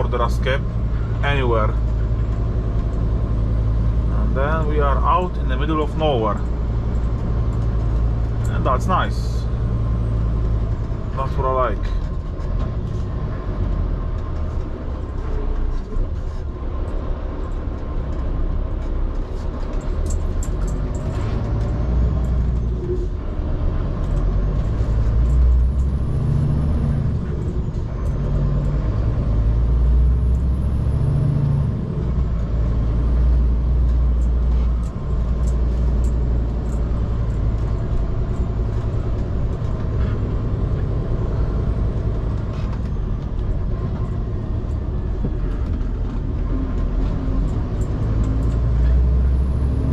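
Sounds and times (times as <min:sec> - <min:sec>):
truck diesel engine under load: 0:00.0 - 0:49.9.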